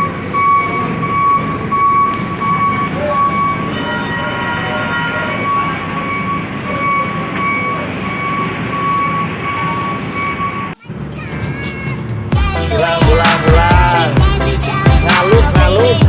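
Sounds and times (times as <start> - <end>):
heavy engines rumbling: 0.0 - 16.0.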